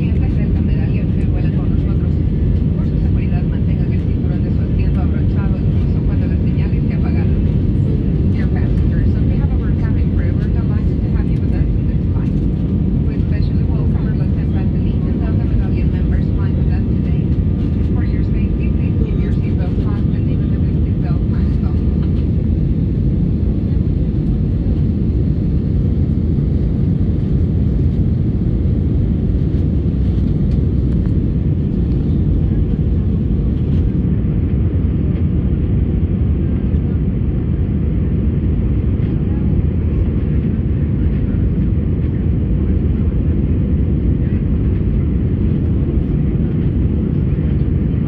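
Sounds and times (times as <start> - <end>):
airliner engines rumbling: 0.0 - 48.0.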